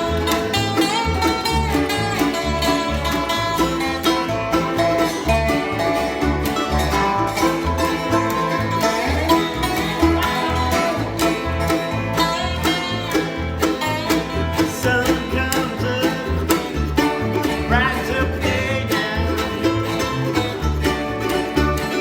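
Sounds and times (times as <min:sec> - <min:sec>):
bluegrass plucked strings: 0:00.0 - 0:22.0
stepping bass line: 0:00.0 - 0:22.0.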